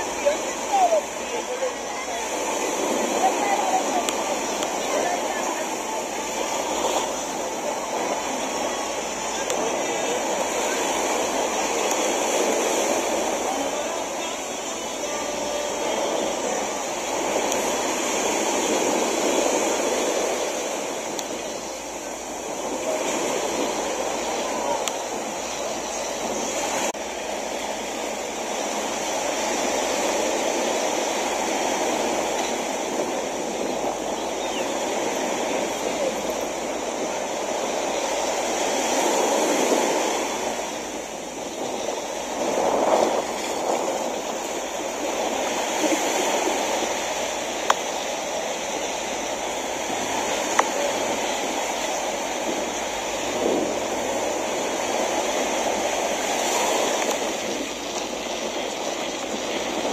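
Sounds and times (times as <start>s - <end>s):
small waves washing onto beach: 0.0s - 59.9s.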